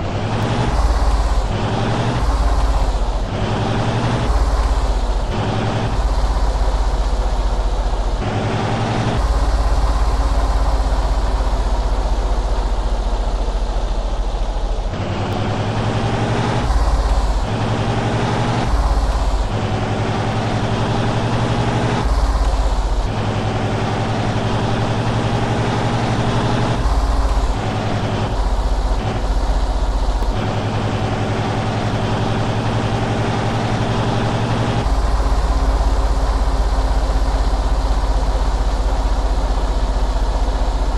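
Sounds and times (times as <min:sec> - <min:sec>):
heavy truck engines running: 0:00.0 - 0:40.9.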